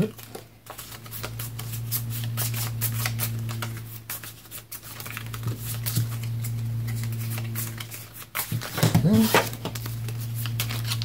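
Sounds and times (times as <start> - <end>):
playing cards shuffling: 0.0 - 11.0
steady low hum: 0.0 - 11.0.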